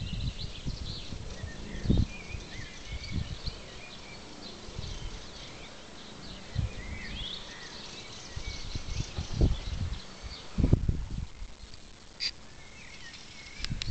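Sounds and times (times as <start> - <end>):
wind buffeting microphone: 0.0 - 12.0, 13.3 - 13.9
small birds chirping: 0.0 - 13.9.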